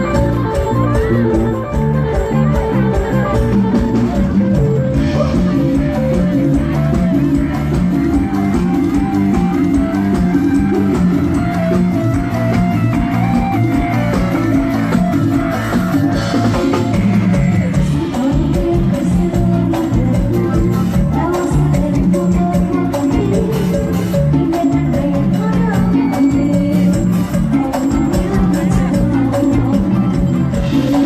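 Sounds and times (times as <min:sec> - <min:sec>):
drum kit beat: 0:00.0 - 0:31.0
electric guitar: 0:00.0 - 0:31.0
live band music: 0:00.0 - 0:31.0.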